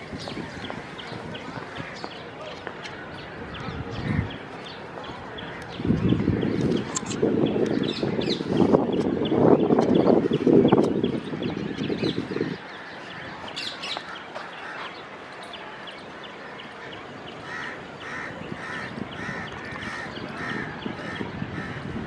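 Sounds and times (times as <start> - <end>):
birds chirping: 0.0 - 22.0
harsh bird calls: 0.0 - 22.0.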